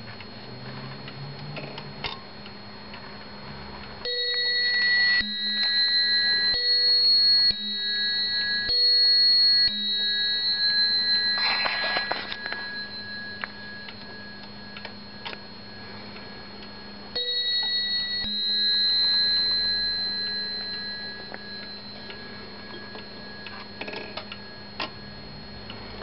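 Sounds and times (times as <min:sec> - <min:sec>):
clock bell striking: 0:04.0 - 0:26.0.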